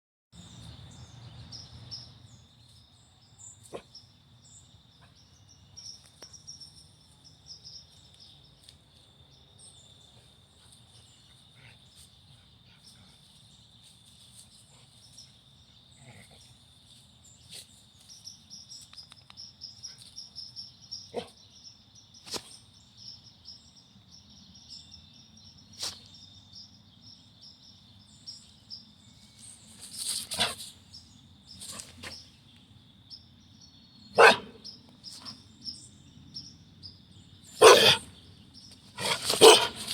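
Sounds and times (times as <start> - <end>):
night insects chorus: 0.4 - 39.9.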